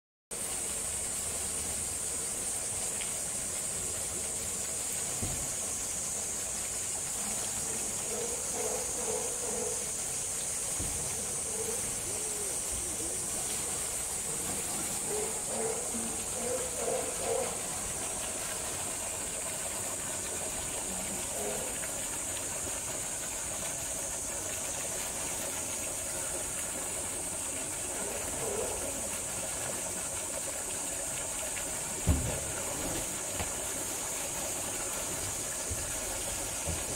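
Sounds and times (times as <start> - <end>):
high hiss: 0.3 - 36.9
low water noise: 0.3 - 36.9.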